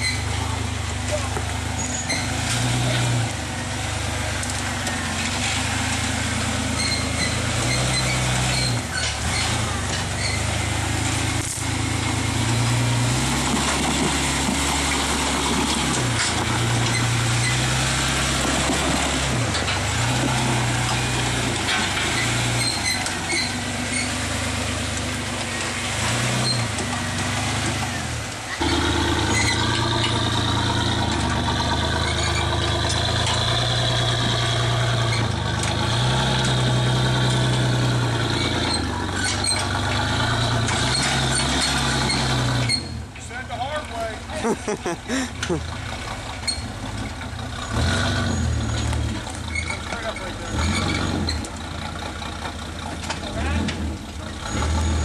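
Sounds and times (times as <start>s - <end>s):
buggy engine revving under load: 0.0s - 55.0s.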